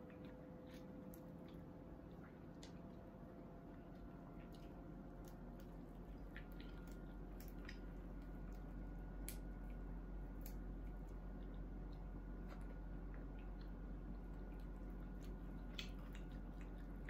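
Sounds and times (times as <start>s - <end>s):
chewing: 0.0s - 17.0s
low steady hum: 0.0s - 17.0s.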